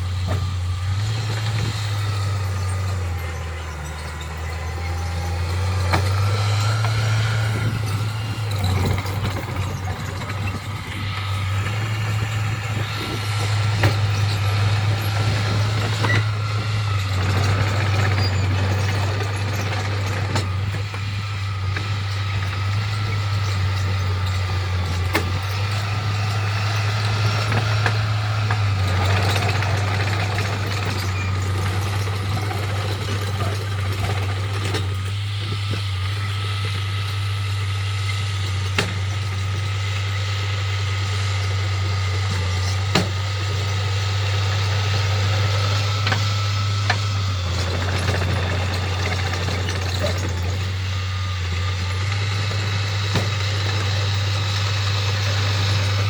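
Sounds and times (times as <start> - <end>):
diesel machinery engine hum: 0.0 - 56.0.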